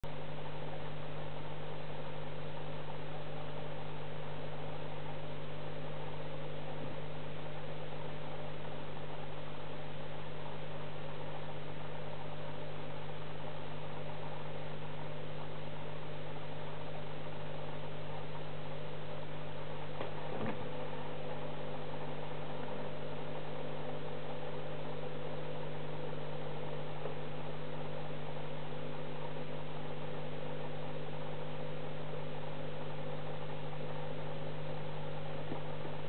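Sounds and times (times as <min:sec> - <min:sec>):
aquarium pump humming: 0:00.0 - 0:36.0.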